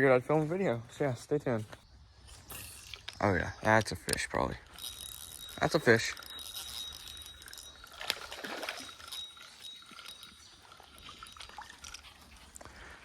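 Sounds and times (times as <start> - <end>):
creek water trickling: 2.0 - 13.0.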